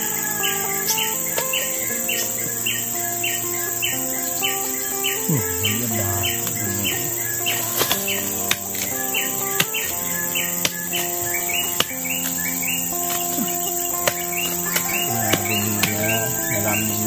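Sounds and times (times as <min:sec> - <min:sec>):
background music: 0:00.0 - 0:17.0
insects buzzing drone: 0:00.0 - 0:17.0.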